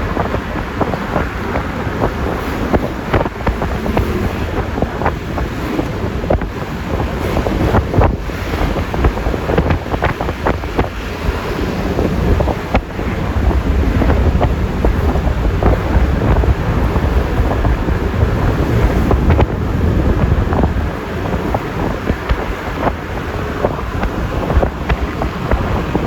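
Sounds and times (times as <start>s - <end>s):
scooter road noise: 0.0s - 26.0s
wind buffeting microphone: 0.0s - 26.0s.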